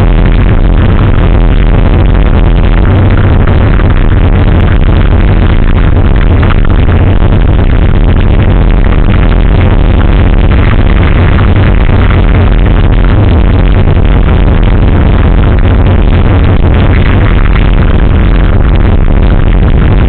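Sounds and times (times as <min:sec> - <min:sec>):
engine noise: 0:00.0 - 0:20.0.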